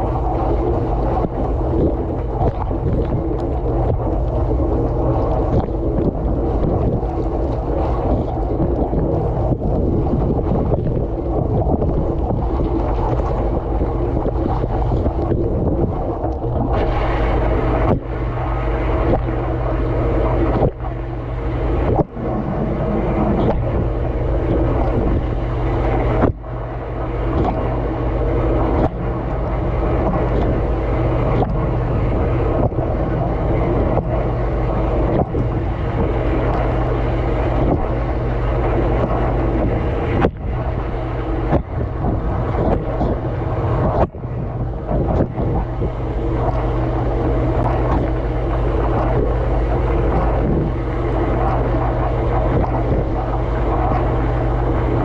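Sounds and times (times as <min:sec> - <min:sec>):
pump motor hum: 0:00.0 - 0:55.0.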